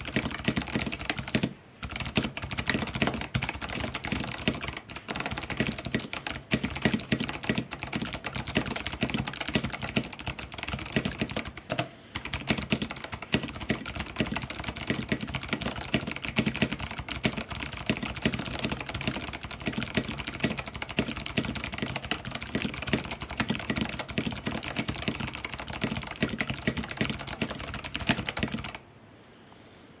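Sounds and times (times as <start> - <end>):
mechanical keyboard typing: 0.0 - 28.8.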